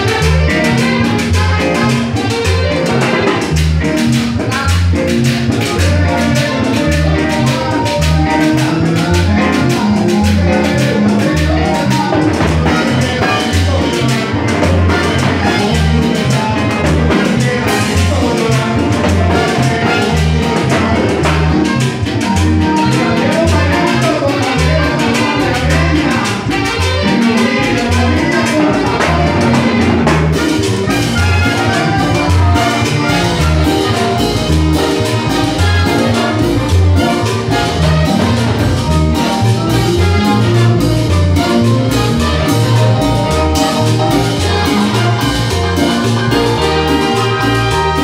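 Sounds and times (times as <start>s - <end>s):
latin dance band playing: 0.0s - 48.0s
pulsing bass beat: 0.0s - 48.0s.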